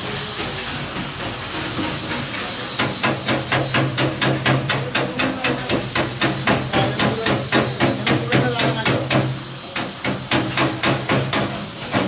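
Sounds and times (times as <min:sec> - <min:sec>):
steady hiss: 0:00.0 - 0:12.0
hammer striking metal: 0:01.0 - 0:12.0.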